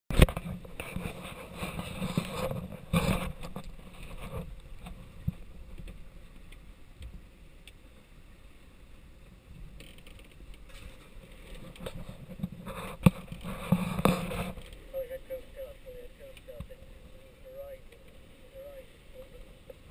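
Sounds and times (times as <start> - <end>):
rushing wind and water: 0.1 - 19.9.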